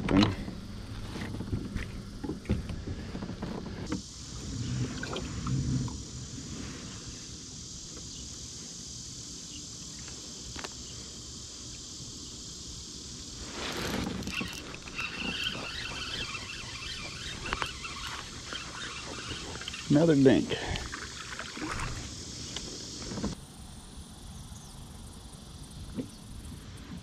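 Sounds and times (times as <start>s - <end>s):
steady high hiss: 3.5s - 27.0s.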